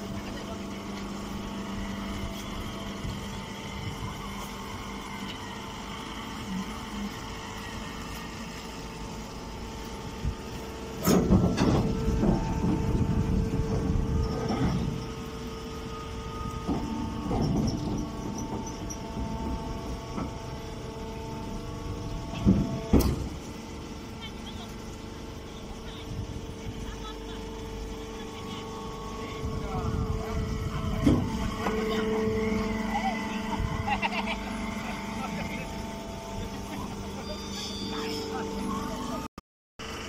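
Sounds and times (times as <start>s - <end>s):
baler motor humming: 0.0s - 40.0s.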